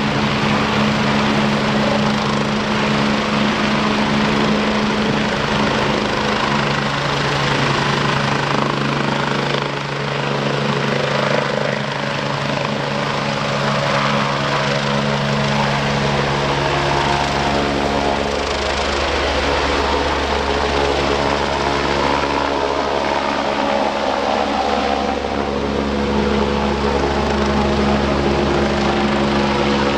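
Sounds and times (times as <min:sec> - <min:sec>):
helicopter engine and rotor: 0:00.0 - 0:29.9.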